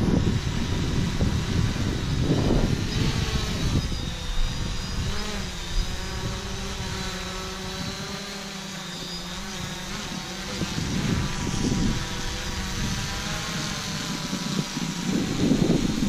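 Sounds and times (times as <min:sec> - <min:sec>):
wind buffeting microphone: 0:00.0 - 0:08.6, 0:09.2 - 0:16.0
drone propellers whining: 0:00.0 - 0:16.0.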